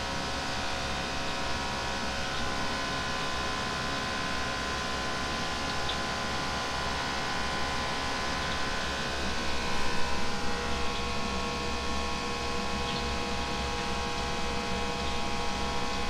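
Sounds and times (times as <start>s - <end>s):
kitchen machinery hum and hiss: 0.0s - 16.0s.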